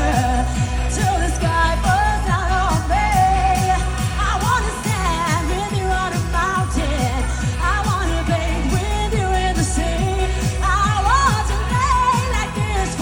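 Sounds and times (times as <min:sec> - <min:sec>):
live dance pop music: 0:00.0 - 0:13.0.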